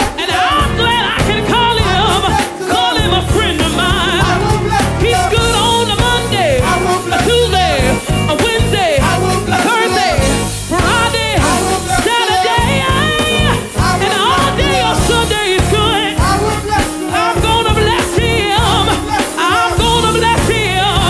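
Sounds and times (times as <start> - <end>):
group singing gospel: 0.0 - 21.0
instrumental accompaniment: 0.0 - 21.0.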